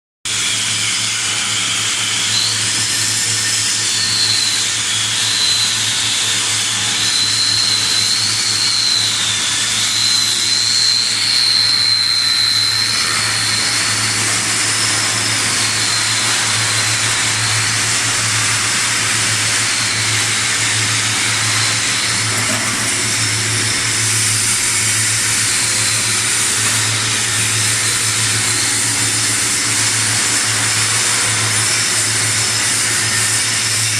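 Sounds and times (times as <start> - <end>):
high wavering whine: 0.3 - 33.9
welding machine hum: 0.3 - 33.9.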